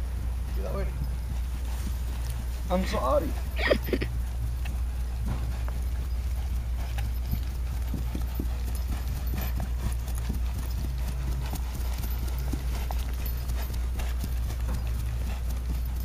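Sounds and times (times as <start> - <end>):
horse hoofbeats on grass: 0.0 - 16.0
steady low rumble: 0.0 - 16.0.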